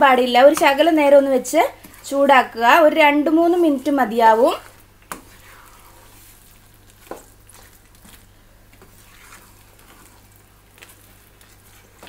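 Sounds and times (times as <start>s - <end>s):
faint sizzling: 0.0s - 12.0s
spatula stirring thick mash: 0.0s - 12.0s.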